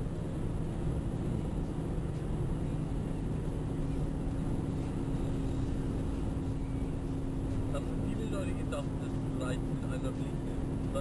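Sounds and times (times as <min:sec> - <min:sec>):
car engine and tyre noise: 0:00.0 - 0:11.0
low steady hum: 0:00.0 - 0:11.0
slightly higher hum: 0:00.0 - 0:11.0.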